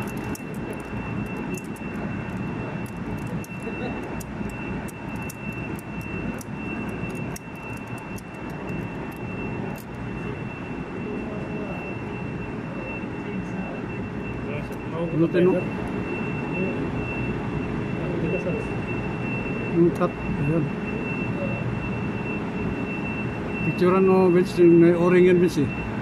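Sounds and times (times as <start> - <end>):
air conditioning machinery drone: 0.0 - 26.0
high whine: 0.0 - 26.0.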